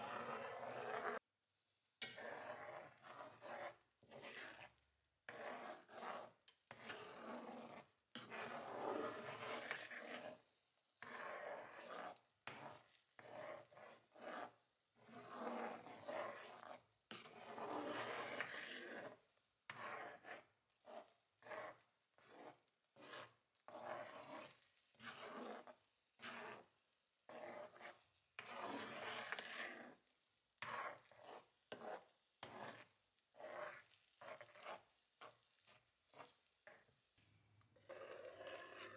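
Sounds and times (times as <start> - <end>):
spatula scraping frying pan: 0.0 - 1.3, 2.0 - 38.9.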